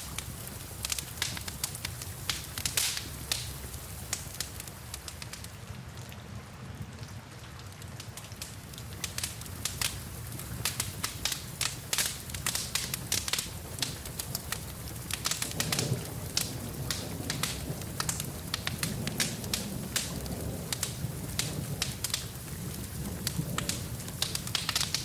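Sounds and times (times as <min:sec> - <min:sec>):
wood fire crackling and popping: 0:00.0 - 0:06.2, 0:06.9 - 0:25.0
rain hissing: 0:00.0 - 0:07.3, 0:08.0 - 0:25.0.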